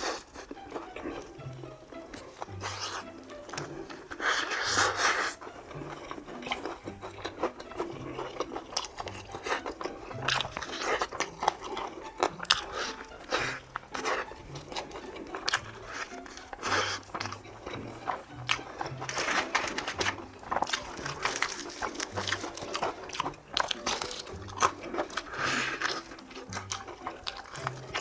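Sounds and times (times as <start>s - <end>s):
crunching bites of fried chicken: 0.0s - 28.0s.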